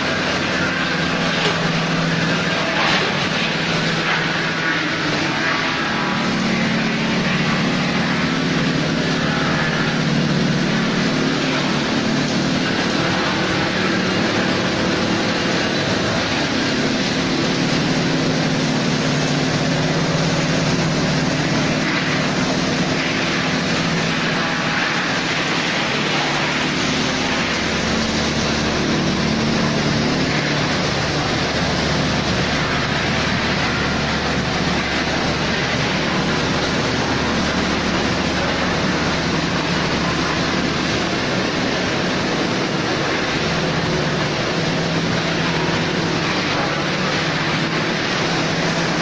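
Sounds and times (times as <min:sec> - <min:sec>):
machinery mechanical din: 0:00.0 - 0:49.0.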